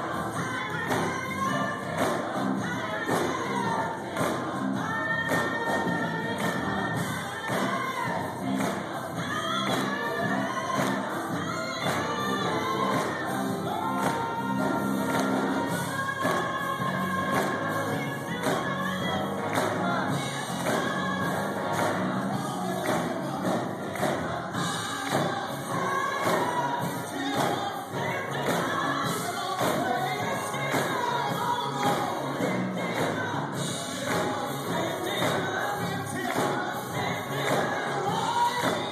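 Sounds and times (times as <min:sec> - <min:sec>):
choir singing gospel song: 0:00.0 - 0:38.9.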